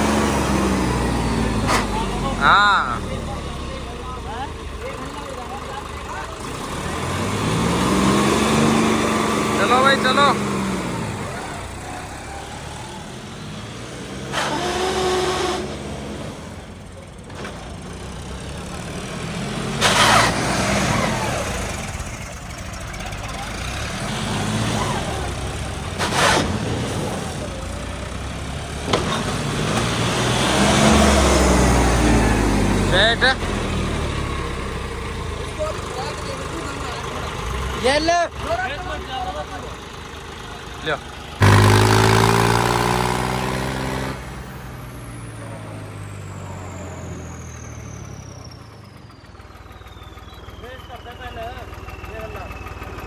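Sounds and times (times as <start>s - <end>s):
diesel tractor engine: 0.0s - 53.0s.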